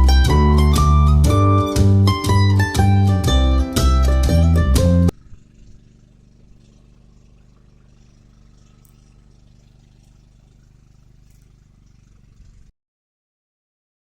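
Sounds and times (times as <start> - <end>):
faint engine hum: 0.0 - 12.7.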